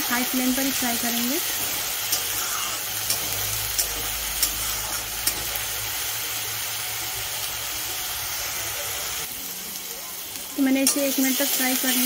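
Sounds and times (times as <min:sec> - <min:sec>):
onion paste sizzling in oil: 0:00.0 - 0:12.0.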